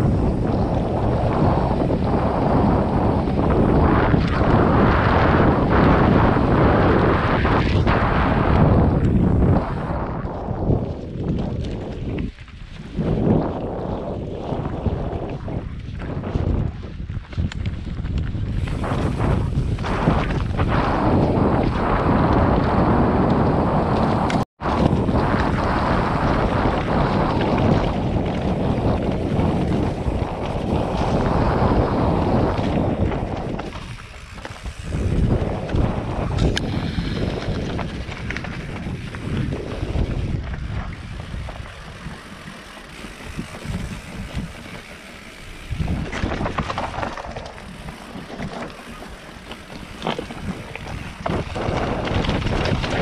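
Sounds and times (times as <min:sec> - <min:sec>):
bike rattling over rocks: 0:00.0 - 0:53.0
bike tyres rumbling on dirt: 0:00.0 - 0:53.0
wind buffeting microphone: 0:00.0 - 0:53.0.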